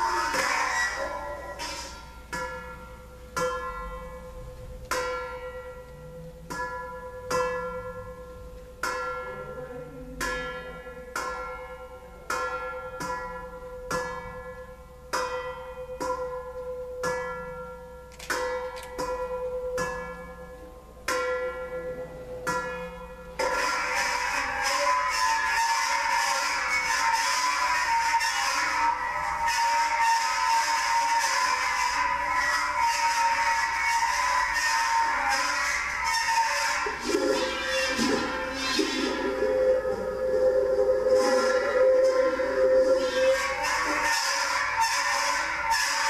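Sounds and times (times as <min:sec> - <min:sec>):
metal bowls struck ringing: 0:00.0 - 0:46.0
steady held tone: 0:00.0 - 0:46.0.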